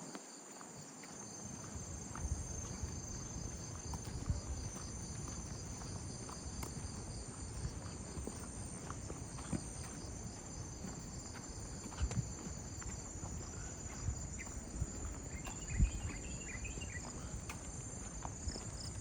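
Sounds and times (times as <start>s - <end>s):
crickets and insects chirping: 0.0s - 19.0s
soft footsteps on path: 0.0s - 19.0s.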